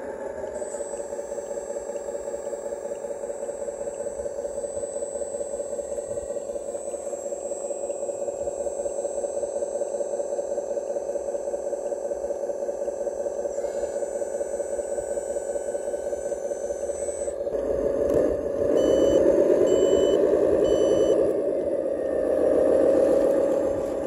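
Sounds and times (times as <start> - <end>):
toy truck mechanical whine: 0.0 - 24.0.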